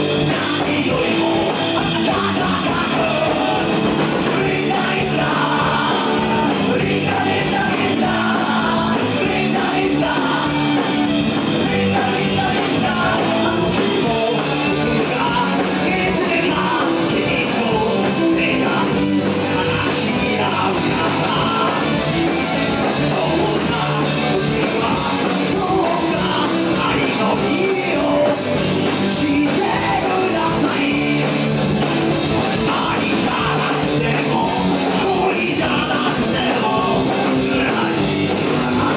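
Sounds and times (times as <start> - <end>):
bass guitar: 0.0 - 38.9
drums: 0.0 - 38.9
electric guitars: 0.0 - 38.9
person singing: 0.0 - 38.9.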